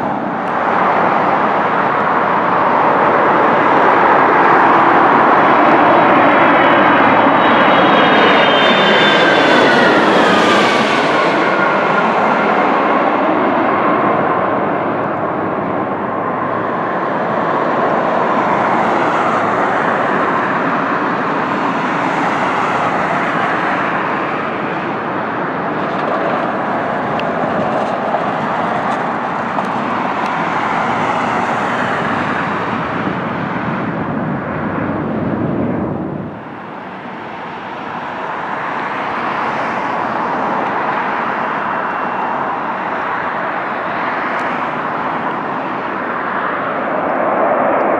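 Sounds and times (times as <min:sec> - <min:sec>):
jet engine roar: 0:00.0 - 0:47.9.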